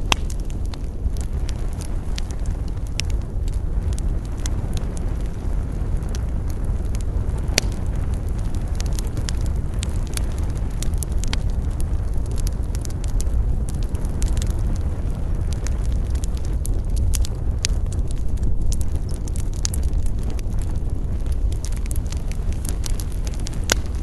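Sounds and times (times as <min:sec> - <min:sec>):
campfire crackling and popping: 0:00.0 - 0:24.0
steady low rumble: 0:00.0 - 0:24.0.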